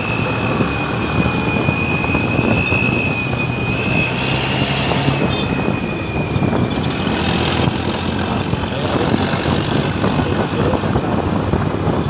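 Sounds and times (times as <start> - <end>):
wind noise on microphone: 0.0 - 12.0
motorcycle engine running: 0.2 - 12.0.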